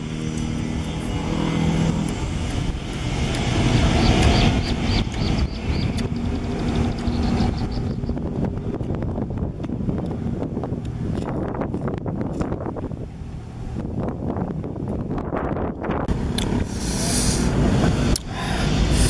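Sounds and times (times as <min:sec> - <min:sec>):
low hum: 0:00.0 - 0:19.0
wind buffeting microphone: 0:00.0 - 0:19.0.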